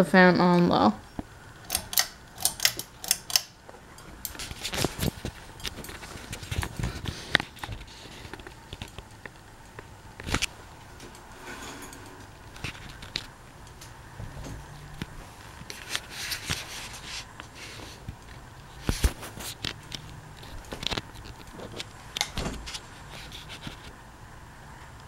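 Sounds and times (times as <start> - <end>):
ceiling fan humming: 0.0 - 25.0.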